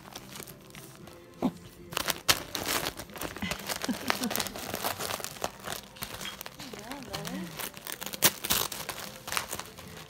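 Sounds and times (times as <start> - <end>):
wrapping paper crinkling and tearing: 0.0 - 10.0.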